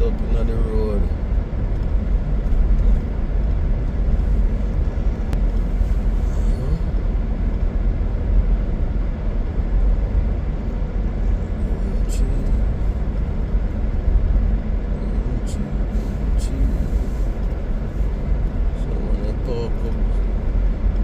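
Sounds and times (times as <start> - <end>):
car engine rumble: 0.0 - 21.0
tyre noise on road: 0.0 - 21.0.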